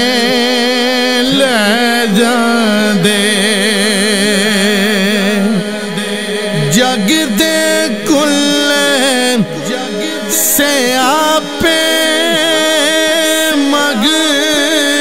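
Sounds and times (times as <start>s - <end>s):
man singing melismatic vocals: 0.0s - 15.0s
steady drone: 0.0s - 15.0s.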